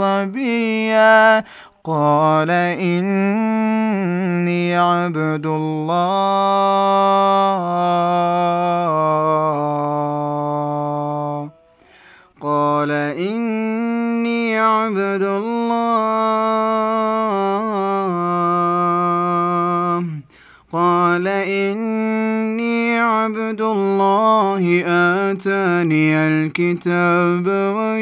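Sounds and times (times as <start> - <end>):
man reciting melodically: 0.0 - 28.0.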